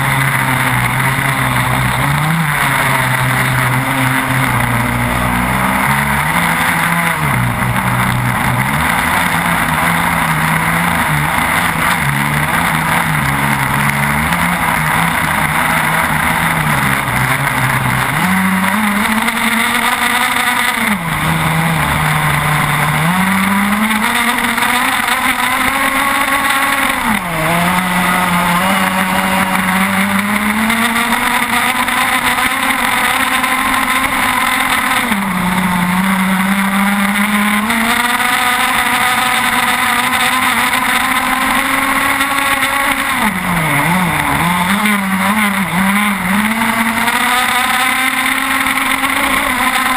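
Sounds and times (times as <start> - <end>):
two-stroke engine at high revs: 0.0 - 49.9.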